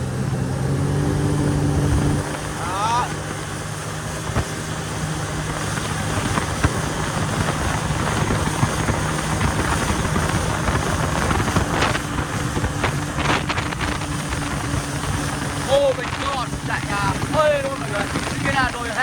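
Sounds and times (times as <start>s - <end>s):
jet ski engine drone: 0.0s - 19.0s
wind noise on microphone: 0.0s - 19.0s.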